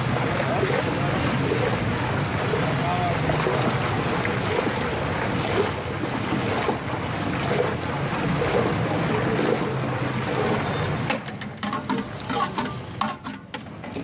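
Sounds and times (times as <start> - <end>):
liquid pouring and splashing: 0.0 - 14.0.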